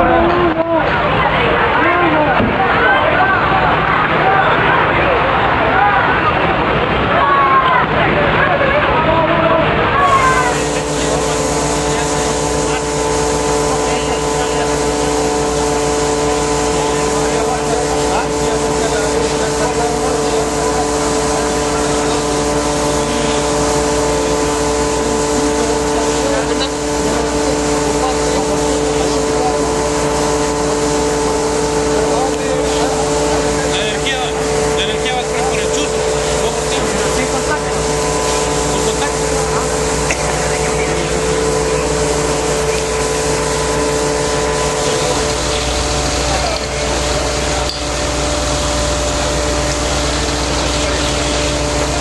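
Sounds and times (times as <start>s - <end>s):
engine running steadily: 0.0s - 52.0s
rushing hiss: 10.0s - 52.0s.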